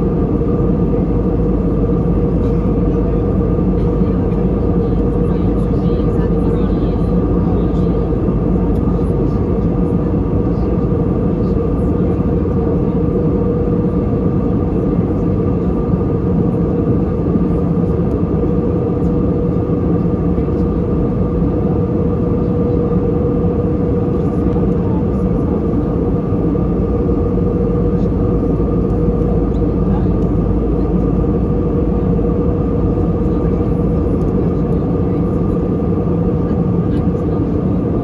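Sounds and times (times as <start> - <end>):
airplane cabin noise: 0.0 - 38.0
constant hum: 0.0 - 38.0.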